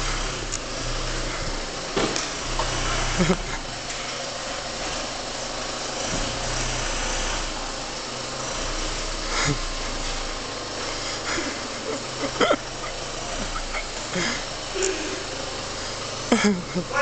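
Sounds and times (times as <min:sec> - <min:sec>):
diesel van engine idling: 0:00.0 - 0:17.0.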